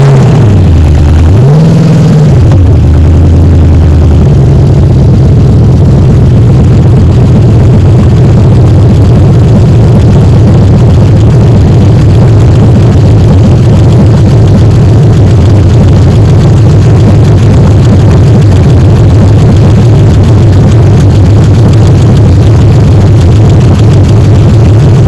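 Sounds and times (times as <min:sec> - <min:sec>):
vee eight engine idling: 0:00.0 - 0:25.0.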